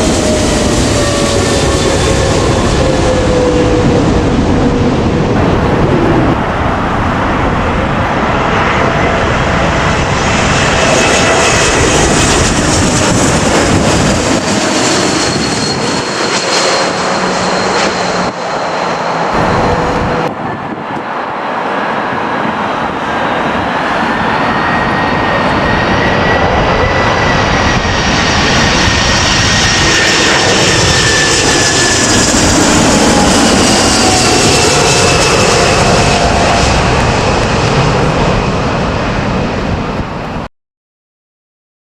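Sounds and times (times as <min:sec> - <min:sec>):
jet engines roaring overhead: 0:00.0 - 0:40.5.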